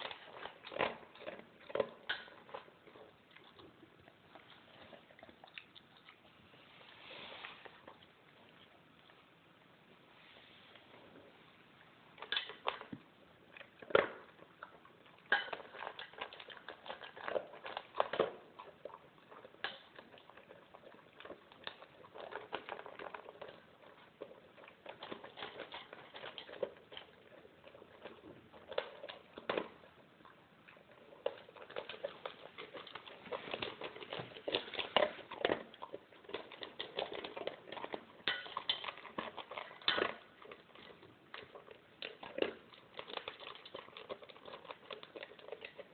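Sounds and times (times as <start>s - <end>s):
dog crunching dry kibble: 0.0s - 9.1s, 12.1s - 45.9s.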